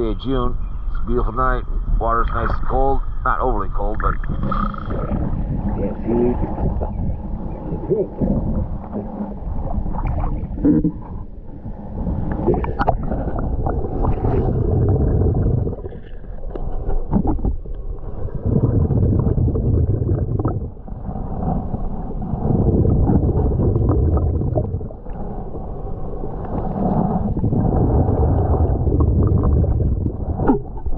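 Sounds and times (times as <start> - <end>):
muffled underwater water sloshing: 0.4 - 30.9.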